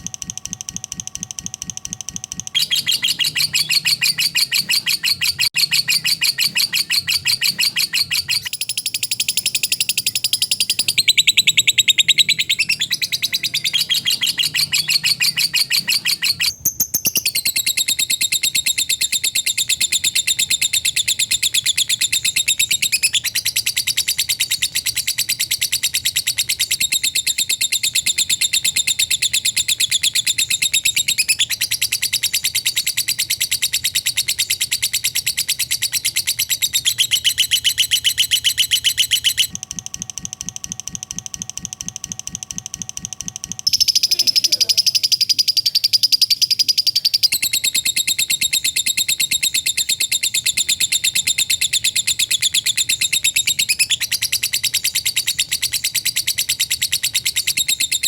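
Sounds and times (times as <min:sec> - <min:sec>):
lovebird chattering: 0:01.6 - 0:39.6, 0:42.7 - 0:58.0.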